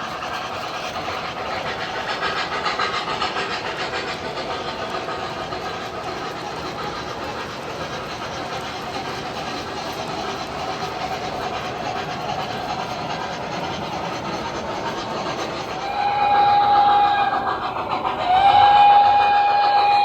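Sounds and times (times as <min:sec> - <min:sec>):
model train rumbling on track: 0:00.0 - 0:20.0.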